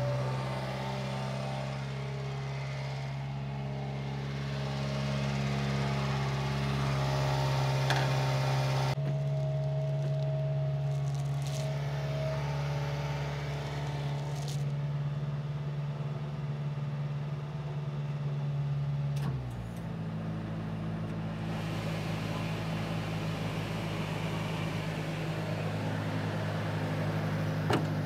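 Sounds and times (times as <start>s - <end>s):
car engine idling: 0.0s - 19.2s, 19.9s - 28.0s.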